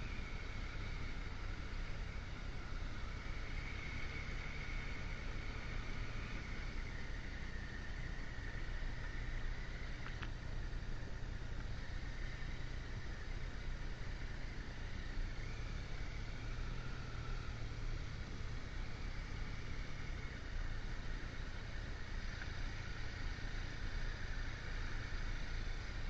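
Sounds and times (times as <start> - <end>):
motorcycle engine hum: 0.0 - 26.0
wind and road noise: 0.0 - 26.0.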